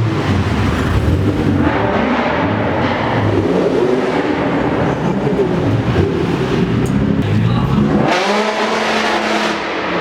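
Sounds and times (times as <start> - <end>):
car engine running at low revs: 0.0 - 8.5.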